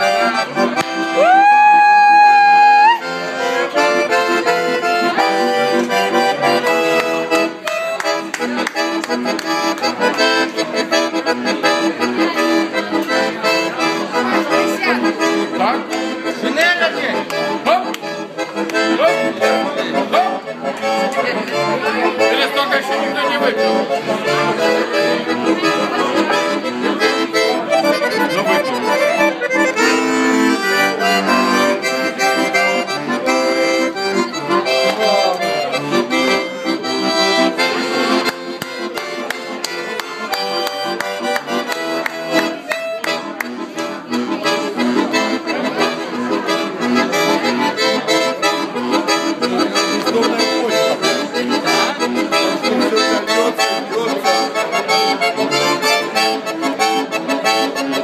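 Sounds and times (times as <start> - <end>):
button accordion tune: 0.0 - 58.0.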